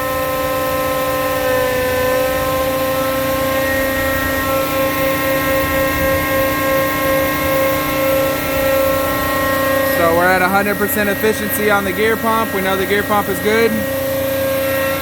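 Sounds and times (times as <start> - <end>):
hydraulic pump whine: 0.0 - 15.0.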